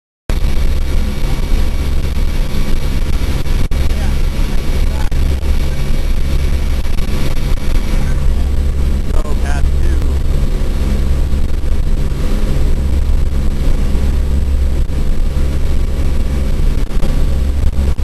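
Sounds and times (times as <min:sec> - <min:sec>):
rush of wind: 0:00.3 - 0:18.0
turboprop engines droning: 0:00.3 - 0:18.0.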